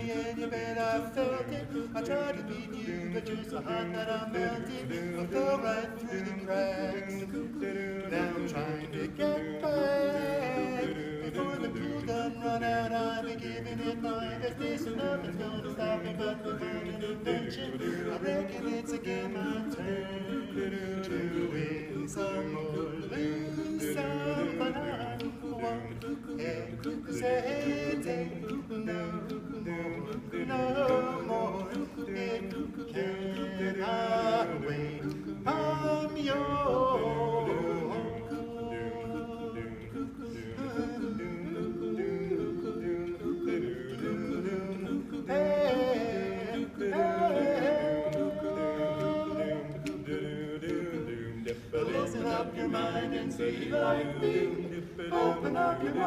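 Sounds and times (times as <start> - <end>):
quartet singing in close harmony: 0.0 - 56.0.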